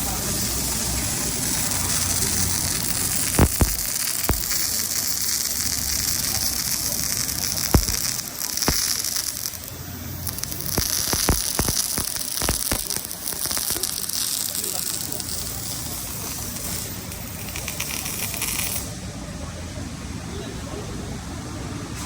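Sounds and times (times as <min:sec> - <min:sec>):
welding pops and crackles: 0:00.0 - 0:18.9
welding arc buzzing hiss: 0:00.0 - 0:19.0.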